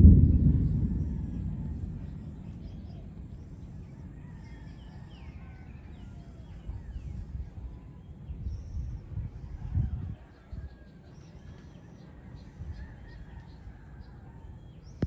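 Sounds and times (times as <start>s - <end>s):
wind gusting on microphone: 0.0s - 15.0s.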